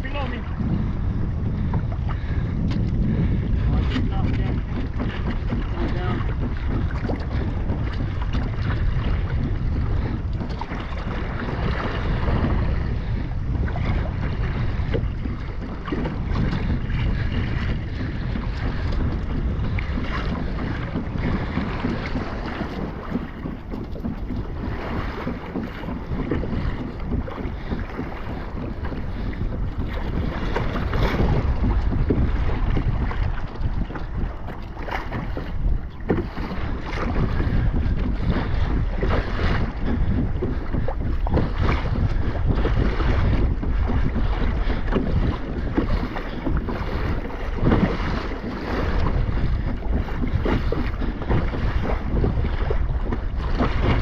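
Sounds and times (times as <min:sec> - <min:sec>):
water splashing around kayak: 0:00.0 - 0:54.0
wind buffeting microphone: 0:00.0 - 0:54.0.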